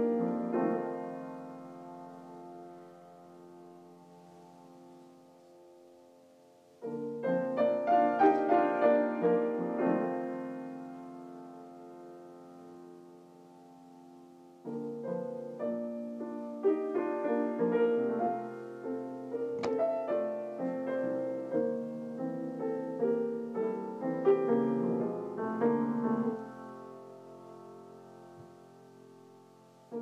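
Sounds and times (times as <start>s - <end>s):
piano playing slow chords: 0.0s - 30.0s.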